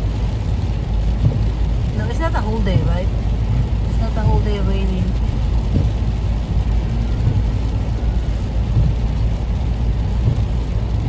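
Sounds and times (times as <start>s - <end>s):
engine and tyre rumble: 0.0s - 11.0s
tyres hissing on wet road: 0.0s - 11.0s.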